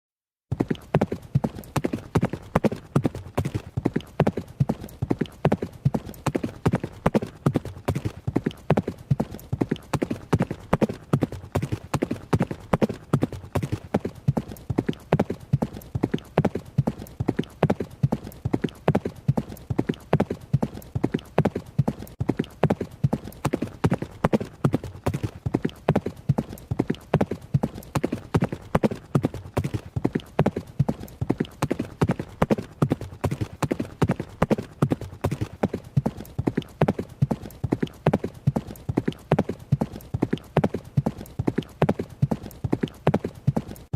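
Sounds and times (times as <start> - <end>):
horse hoofbeats running: 0.5 - 43.9.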